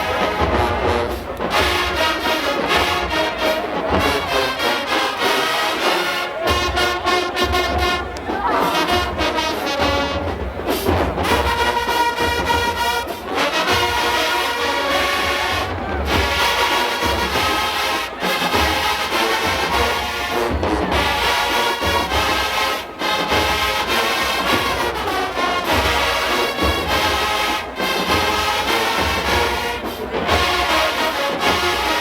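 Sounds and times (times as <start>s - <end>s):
brass section: 0.0s - 32.0s
marching band playing: 0.0s - 32.0s.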